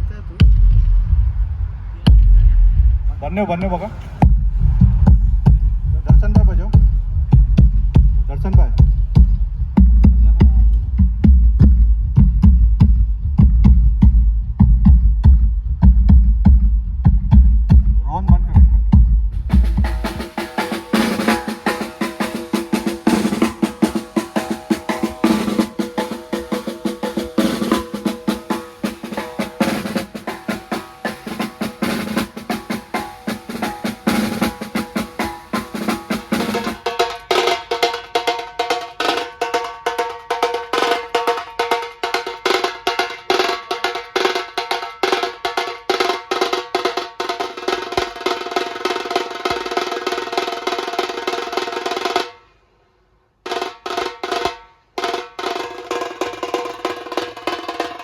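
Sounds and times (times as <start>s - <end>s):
fast drum rolls: 0.0s - 52.3s, 53.5s - 58.0s.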